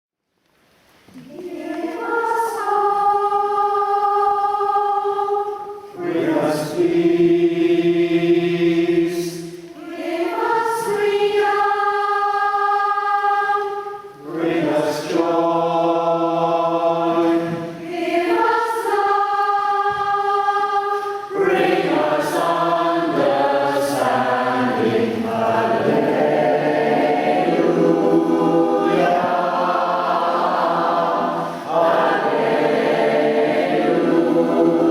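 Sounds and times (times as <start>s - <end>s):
choir singing in harmony: 1.3s - 34.9s.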